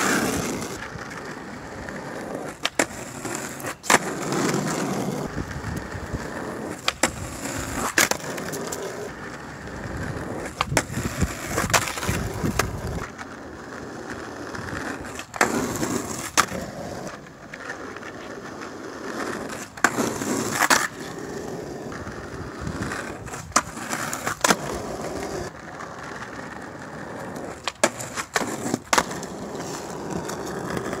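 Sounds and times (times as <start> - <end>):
skateboard clacking on pavement: 0.0 - 31.0
skateboard wheels rolling on asphalt: 0.0 - 31.0.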